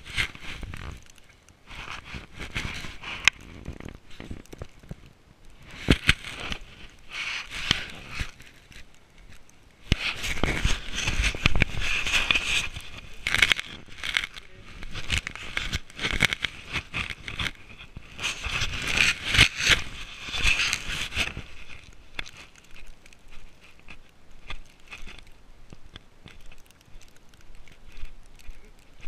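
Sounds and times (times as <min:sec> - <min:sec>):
footsteps crunching through snow: 0:00.0 - 0:04.8, 0:05.6 - 0:29.0
coat rustling against microphone: 0:00.0 - 0:29.0.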